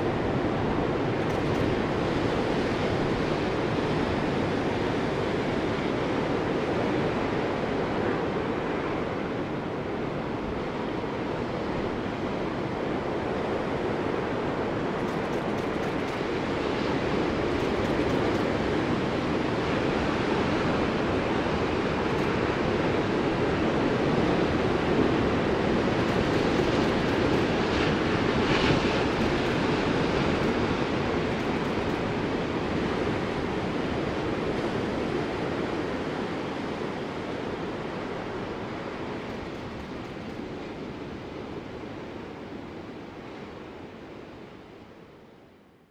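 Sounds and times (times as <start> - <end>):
ocean surf breaking: 0.0 - 41.8.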